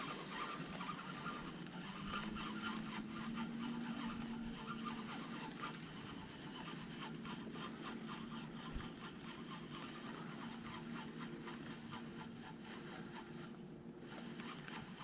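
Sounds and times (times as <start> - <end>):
fishing reel whirring and ticking: 0.0 - 15.0.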